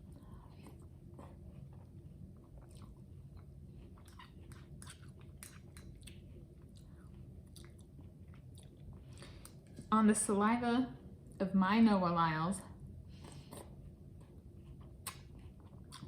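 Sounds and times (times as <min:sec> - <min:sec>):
faint chewing of cereal: 0:00.0 - 0:10.0, 0:13.0 - 0:16.0.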